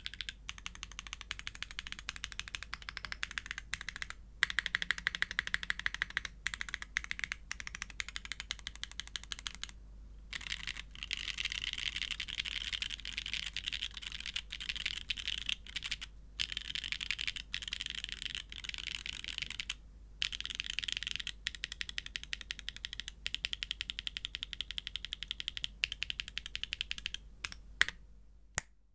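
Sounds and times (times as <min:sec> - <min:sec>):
mechanical keyboard keys clicking: 0:00.0 - 0:09.7, 0:10.4 - 0:27.6.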